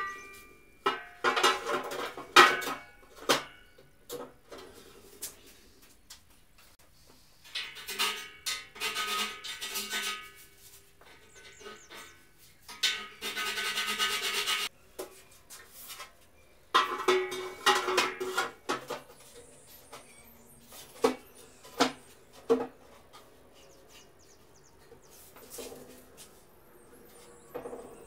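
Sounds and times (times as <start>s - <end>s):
sheet metal clattering and scraping: 0.0s - 5.1s, 7.4s - 14.7s, 16.0s - 26.2s.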